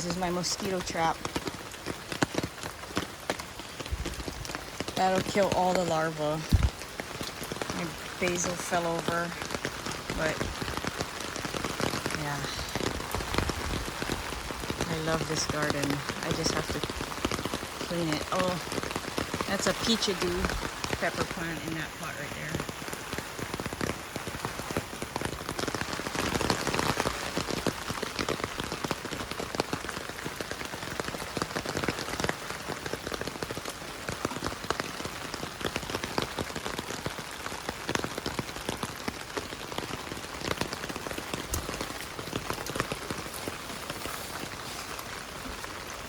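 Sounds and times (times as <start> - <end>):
rain falling: 0.0 - 46.0
raindrops ticking sharply: 0.0 - 46.0.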